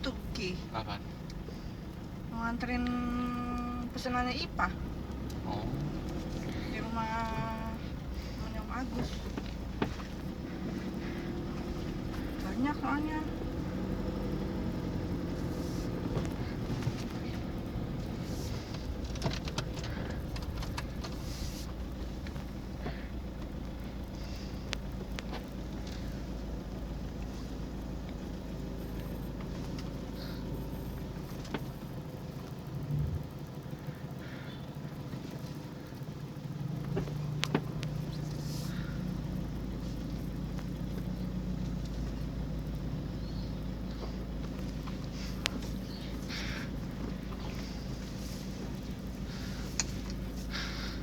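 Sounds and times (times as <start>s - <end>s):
diesel engine droning: 0.0s - 51.0s
light clicks and rattles: 0.0s - 51.0s.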